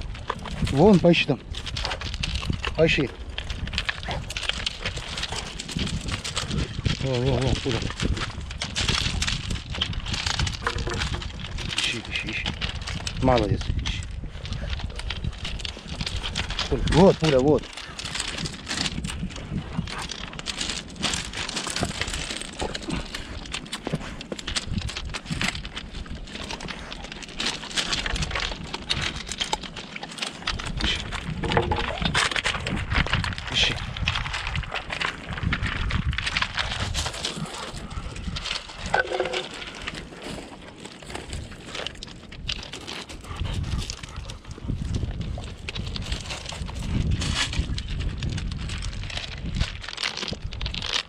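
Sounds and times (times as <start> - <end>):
footsteps on pebbles: 0.0 - 51.0
stones knocking together: 0.1 - 51.0.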